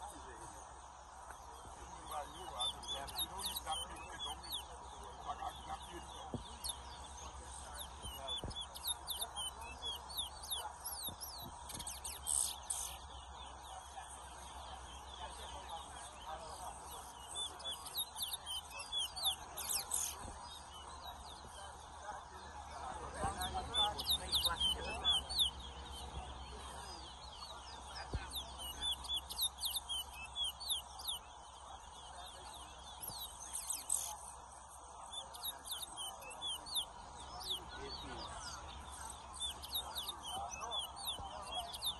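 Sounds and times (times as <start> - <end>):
finches singing high whistles: 1.4 - 21.9, 23.1 - 41.9.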